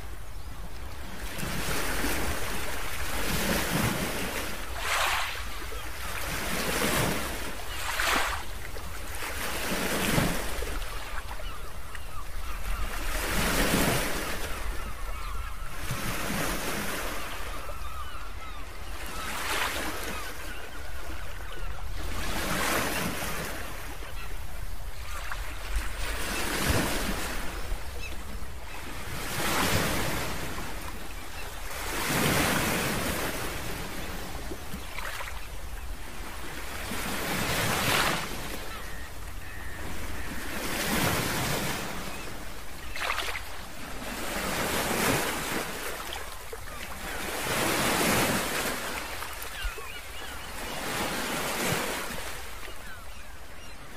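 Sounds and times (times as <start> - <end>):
ocean waves breaking: 1.0 - 20.6, 21.4 - 53.7.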